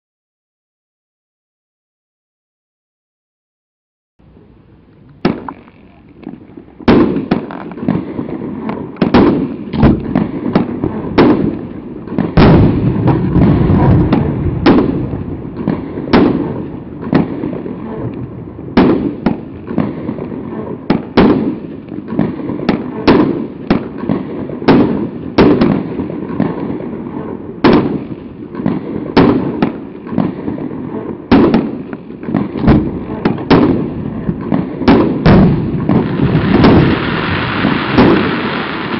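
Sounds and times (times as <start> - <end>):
continuous firework noise: 4.3 - 38.9
firework reports: 4.3 - 38.9.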